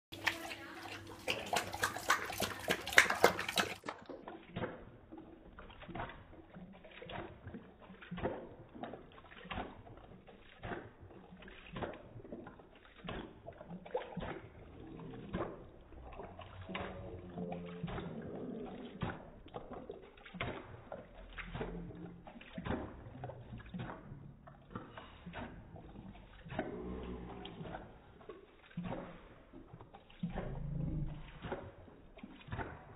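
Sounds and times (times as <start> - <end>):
dog lapping water: 0.1 - 32.9.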